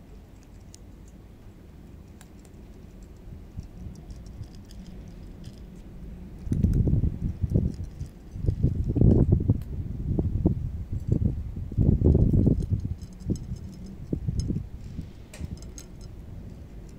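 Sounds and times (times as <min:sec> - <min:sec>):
cats crunching dry kibble: 0:00.0 - 0:09.3, 0:12.0 - 0:16.9
low rumbling bursts: 0:00.0 - 0:16.9.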